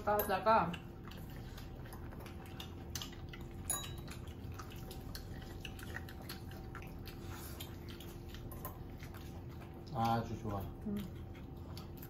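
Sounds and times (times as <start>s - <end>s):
faint steady hum: 0.0s - 12.0s
wet chewing clicks and smacks: 0.0s - 12.0s.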